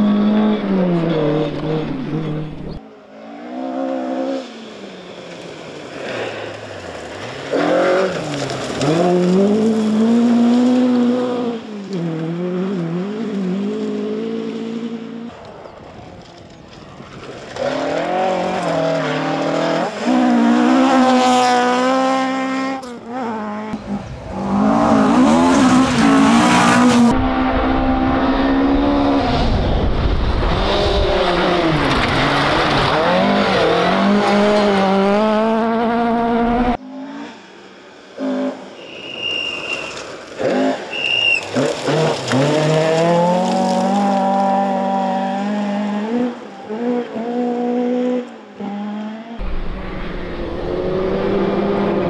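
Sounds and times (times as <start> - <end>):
rally cars revving past: 0.0 - 15.9, 17.1 - 52.0.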